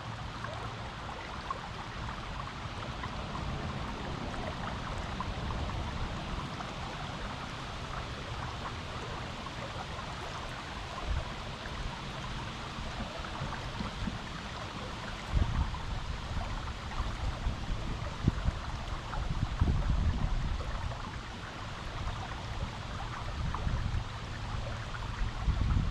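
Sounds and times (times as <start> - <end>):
river water flowing over rocks: 0.0 - 25.9.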